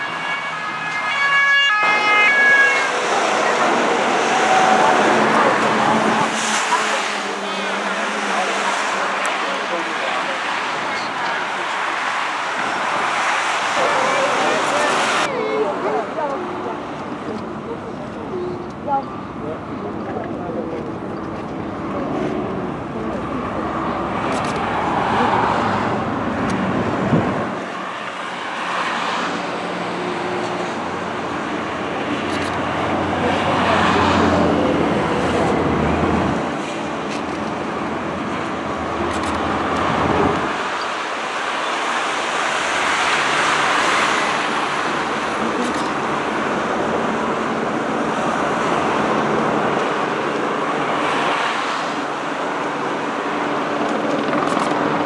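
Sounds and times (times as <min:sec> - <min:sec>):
motorway traffic passing: 0:00.0 - 0:55.0.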